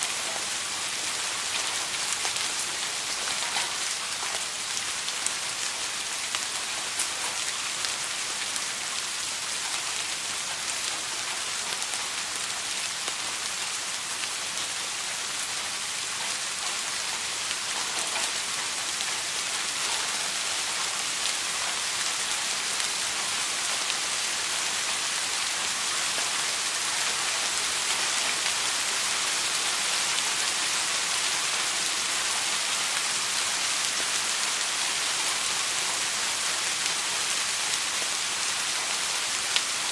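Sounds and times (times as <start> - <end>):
rain falling: 0.0 - 39.9
raindrops ticking on a surface: 0.1 - 39.9.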